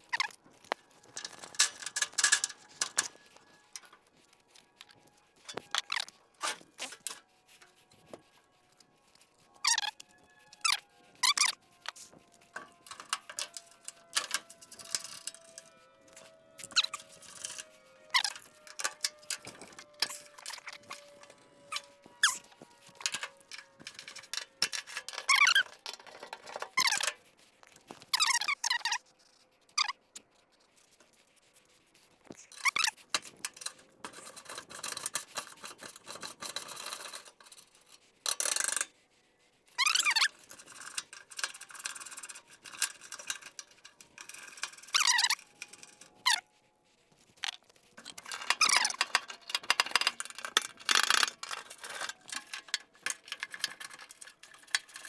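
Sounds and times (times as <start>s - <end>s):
high-pitched metal squeaks: 0.0s - 29.1s, 29.7s - 30.0s, 32.3s - 46.6s, 47.2s - 55.0s.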